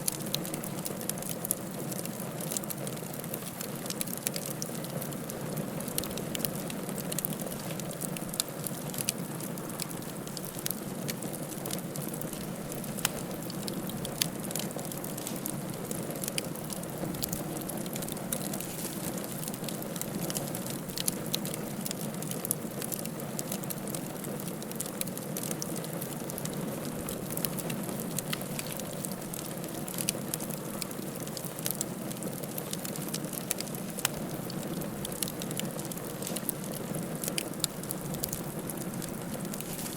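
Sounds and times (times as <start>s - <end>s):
fire snapping and popping: 0.0s - 39.9s.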